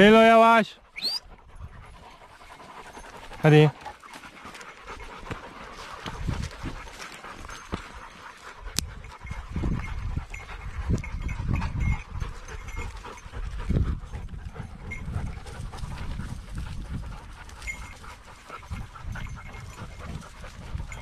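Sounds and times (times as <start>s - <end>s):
heavy panting: 0.8s - 21.0s.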